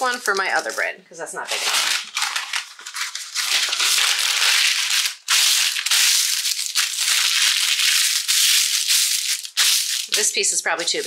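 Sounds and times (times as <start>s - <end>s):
paper crumpling: 0.0s - 0.9s, 1.5s - 11.0s.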